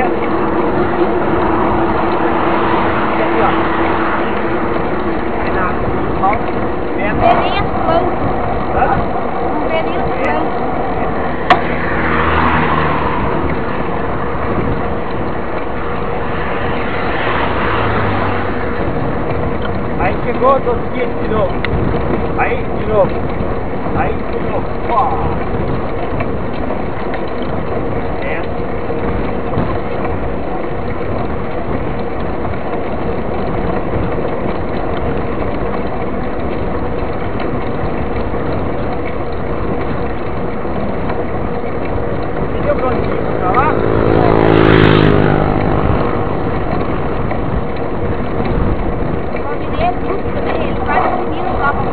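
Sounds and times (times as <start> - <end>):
bicycle tyre and drivetrain noise: 0.0 - 51.9
bike clicking rattle: 0.0 - 51.9
car passing: 0.0 - 51.9
low vehicle hum: 0.0 - 51.9
wind on microphone: 0.0 - 51.9.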